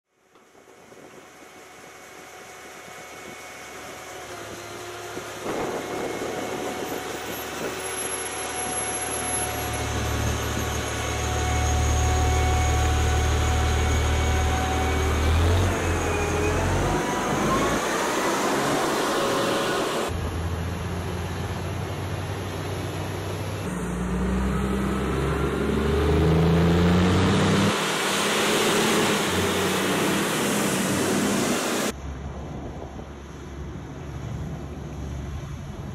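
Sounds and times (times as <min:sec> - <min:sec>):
dump truck diesel engine: 0:02.2 - 0:32.0.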